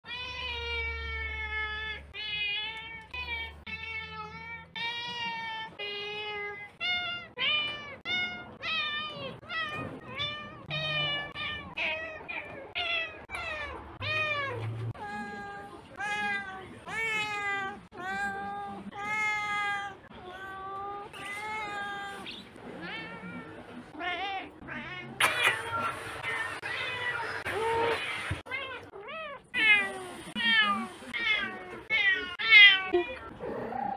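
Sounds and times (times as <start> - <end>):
cats meowing: 0.0 - 33.3.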